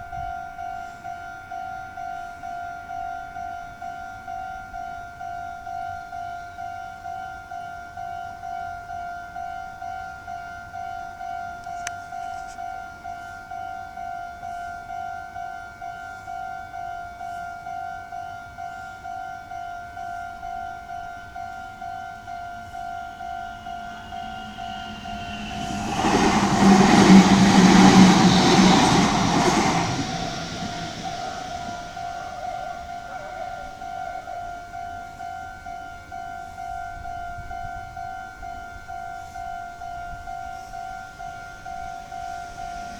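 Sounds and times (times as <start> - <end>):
level crossing warning bell: 0.0 - 42.9
train passing: 7.9 - 42.9.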